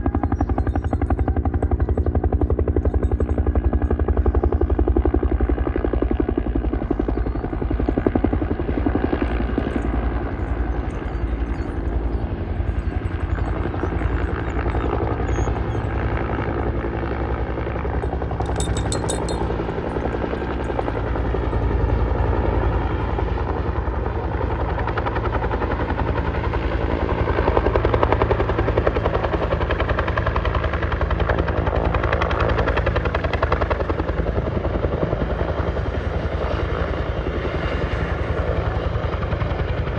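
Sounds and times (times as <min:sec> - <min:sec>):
helicopter rotor chop: 0:00.0 - 0:39.9.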